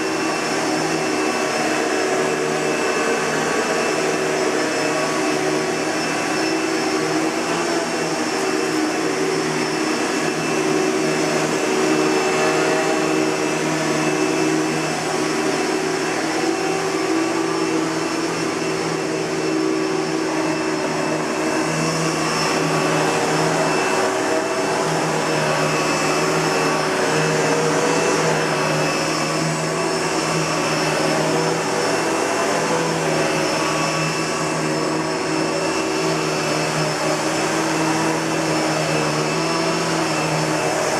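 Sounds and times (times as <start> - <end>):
upright vacuum cleaner whine: 0.0 - 40.9.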